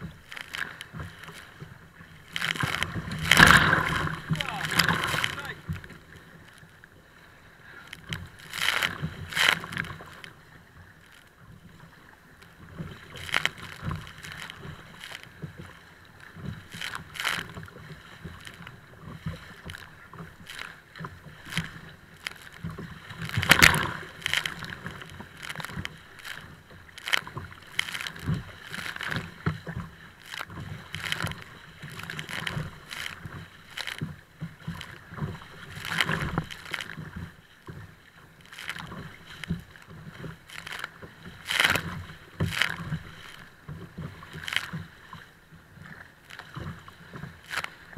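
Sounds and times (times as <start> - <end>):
waves splashing against kayak hull: 0.0 - 47.9.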